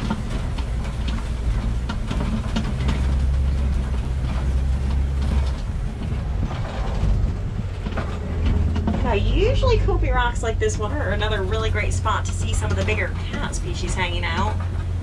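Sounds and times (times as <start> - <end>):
truck body rattling: 0.0 - 15.0
truck engine drone: 0.0 - 15.0.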